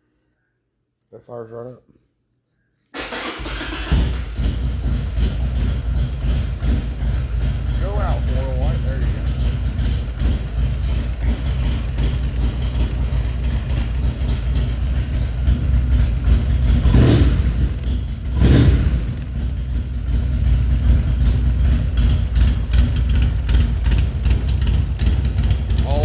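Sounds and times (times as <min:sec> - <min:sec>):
motorcycle engine idling and revving: 0:03.3 - 0:26.0.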